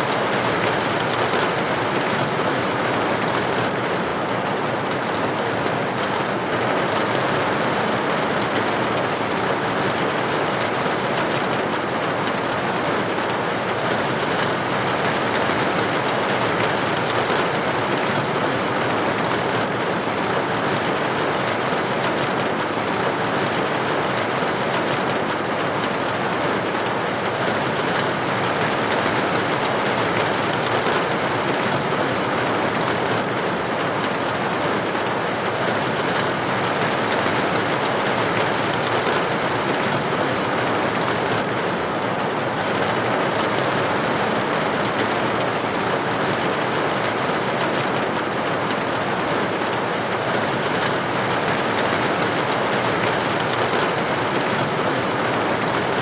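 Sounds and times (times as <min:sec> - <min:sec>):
rain pattering on a window: 0:00.0 - 0:56.0.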